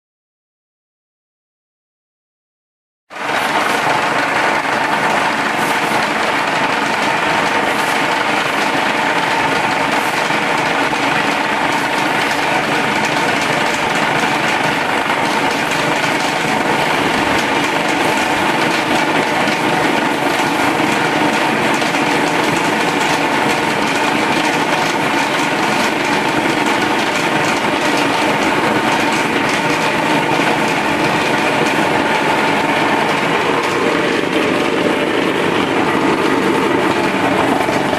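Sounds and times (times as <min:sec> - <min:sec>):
vibrating table running: 0:03.2 - 0:37.9.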